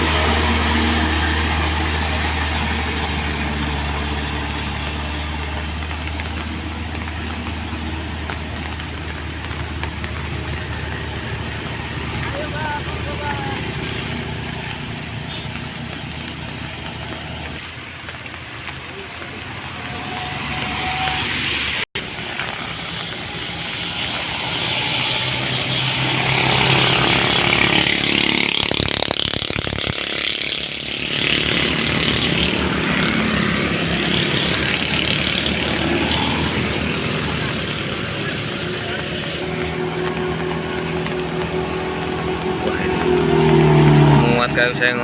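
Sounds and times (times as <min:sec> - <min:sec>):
truck engine passing: 0:00.0 - 0:45.0.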